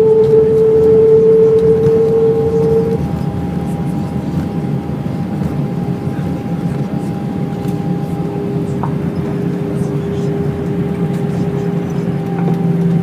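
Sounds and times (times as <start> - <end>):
jet engines whining: 0.0 - 13.0
low cabin rumble: 0.0 - 13.0.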